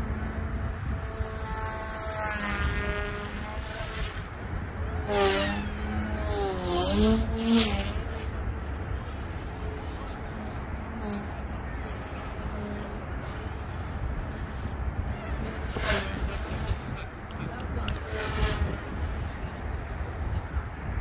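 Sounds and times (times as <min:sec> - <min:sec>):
rc helicopter rotor whine: 0:00.0 - 0:20.7
wind rumble on microphone: 0:00.0 - 0:21.0.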